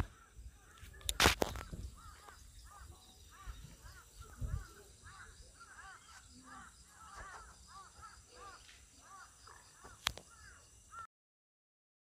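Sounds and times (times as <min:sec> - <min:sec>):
crows cawing: 0:00.0 - 0:00.9, 0:01.5 - 0:11.1.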